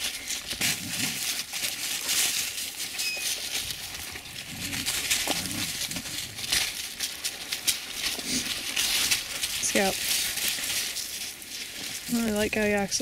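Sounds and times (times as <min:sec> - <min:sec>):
dogs snuffling and panting: 0:00.0 - 0:13.0
rustling of dry grass and leaves: 0:00.0 - 0:13.0.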